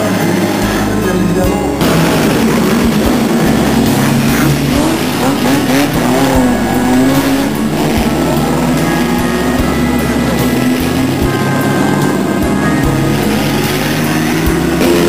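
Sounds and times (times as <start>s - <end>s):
racing car engines revving past: 0.0s - 15.0s.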